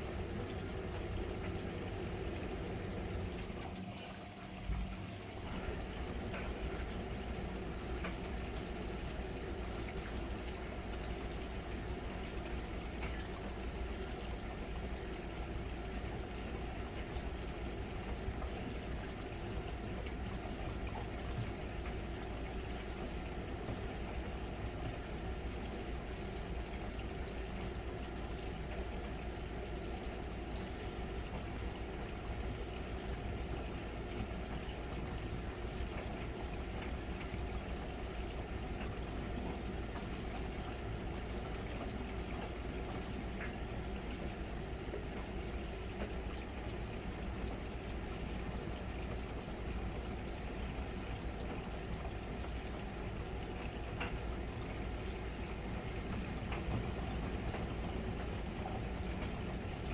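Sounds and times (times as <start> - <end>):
low constant hum: 0.0 - 59.9
water moving in washing machine: 0.0 - 59.9.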